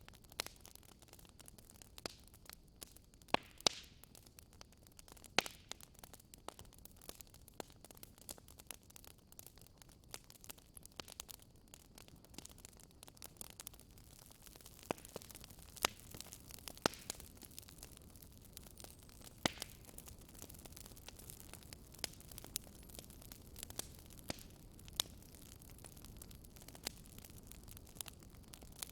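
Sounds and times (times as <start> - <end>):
wood fire crackling: 0.0 - 28.9
faint steady hiss: 1.8 - 28.9.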